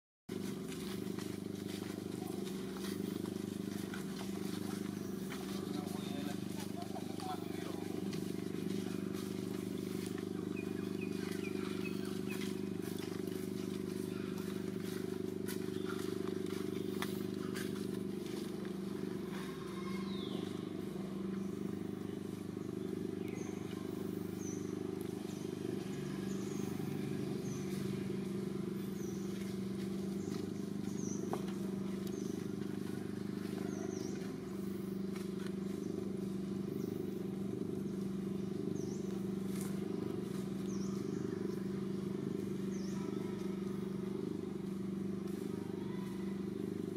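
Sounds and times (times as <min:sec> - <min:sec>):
low mechanical hum: 0:00.3 - 0:46.9.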